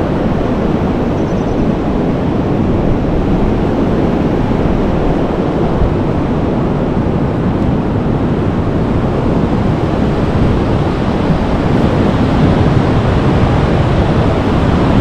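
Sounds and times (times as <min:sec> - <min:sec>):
wind buffeting microphone: 0:00.0 - 0:15.0
surf breaking on beach: 0:01.8 - 0:15.0.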